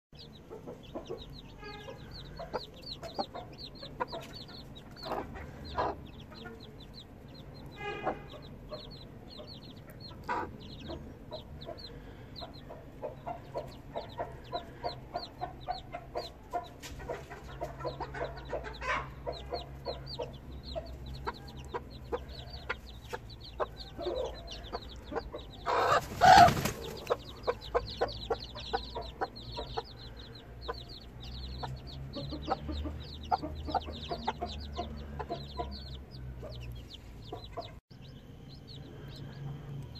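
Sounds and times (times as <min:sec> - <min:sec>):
hen clucking: 0:00.2 - 0:38.8
chicks peeping: 0:00.2 - 0:39.9.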